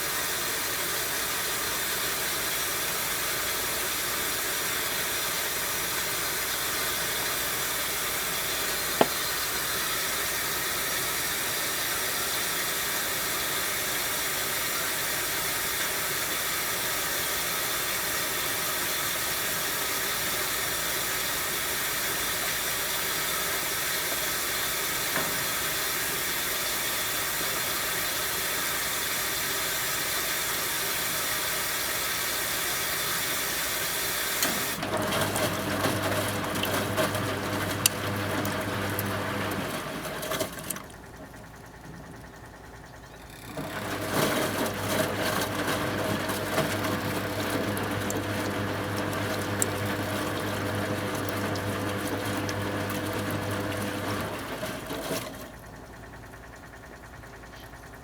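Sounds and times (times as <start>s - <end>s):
washing machine hissing: 0.0s - 58.0s.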